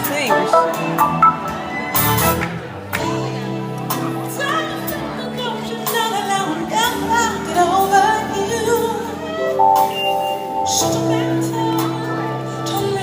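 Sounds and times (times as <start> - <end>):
live band accompaniment chords: 0.0 - 13.0.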